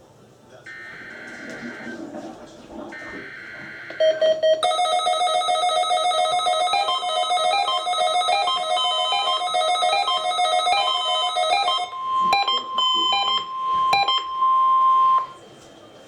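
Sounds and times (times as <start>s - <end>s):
steady warning alarm tone: 0.7s - 15.4s.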